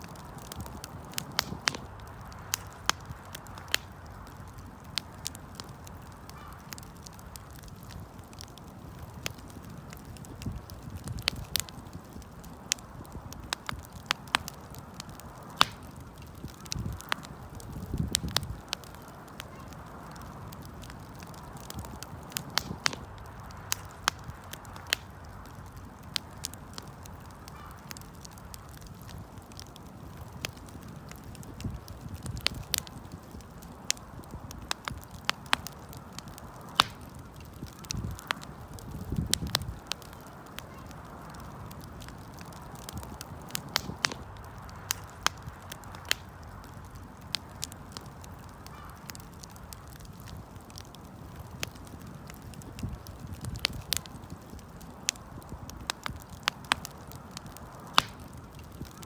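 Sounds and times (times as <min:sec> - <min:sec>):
campfire pops and snaps: 0:00.0 - 0:59.0
low rush of burning: 0:00.0 - 0:59.0
wood fire crackling: 0:00.0 - 0:59.0.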